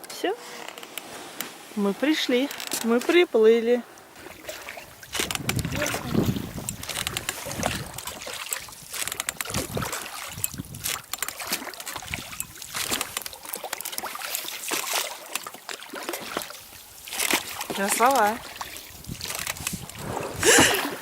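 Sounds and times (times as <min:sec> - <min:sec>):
water splashing: 0:01.6 - 0:21.0.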